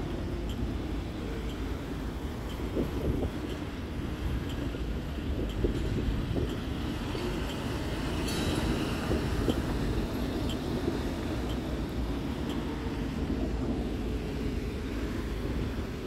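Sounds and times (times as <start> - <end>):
bus engine running: 0.0 - 16.0
street traffic noise: 0.0 - 16.0.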